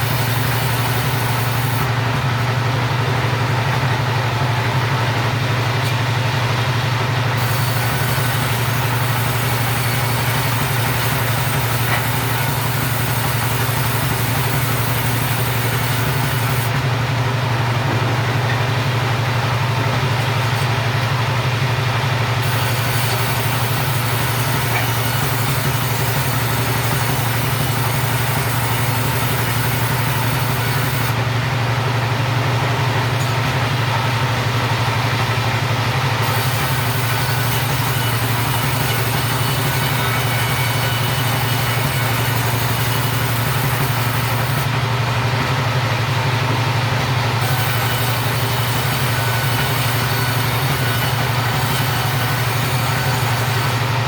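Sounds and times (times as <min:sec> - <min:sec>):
two-stroke chainsaw running: 0:00.0 - 0:54.0.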